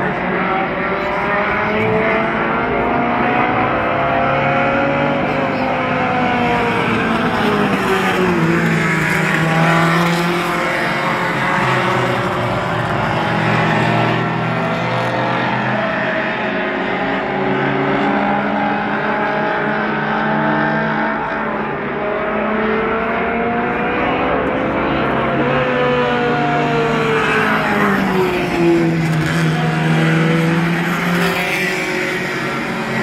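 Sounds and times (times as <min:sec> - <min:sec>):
race car engines: 0:00.0 - 0:33.0.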